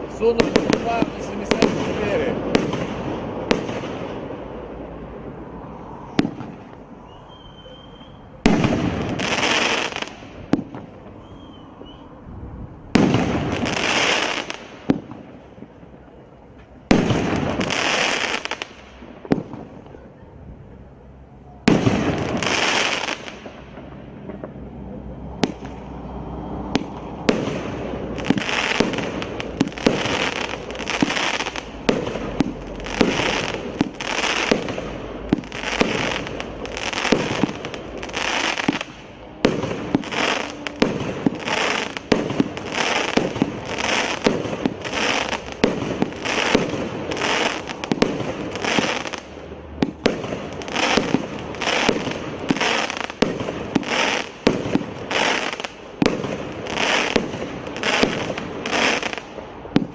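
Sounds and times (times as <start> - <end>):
fireworks launch pops: 0.2 - 4.2, 6.1 - 12.0, 12.9 - 15.8, 16.5 - 20.0, 25.4 - 25.8, 26.7 - 59.9.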